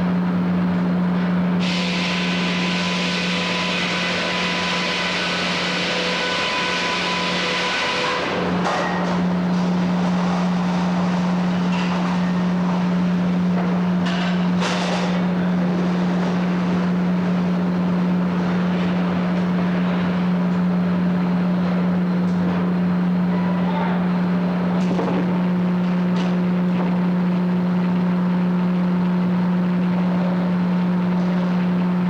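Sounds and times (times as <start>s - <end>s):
sawmill running: 1.6s - 32.0s.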